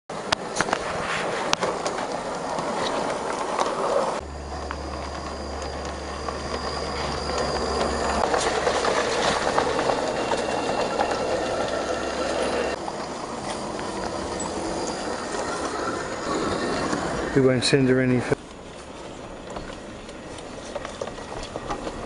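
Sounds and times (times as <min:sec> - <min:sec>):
steady low hum: 0:00.1 - 0:22.0
wheels clicking on rails: 0:00.1 - 0:22.0.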